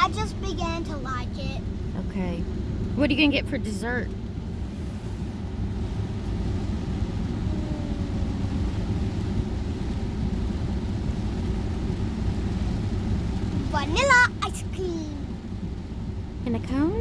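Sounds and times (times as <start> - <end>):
tyres hissing on wet road: 0.0 - 1.9, 2.5 - 17.0
car driving rumble: 0.0 - 17.0
rain: 0.0 - 17.0.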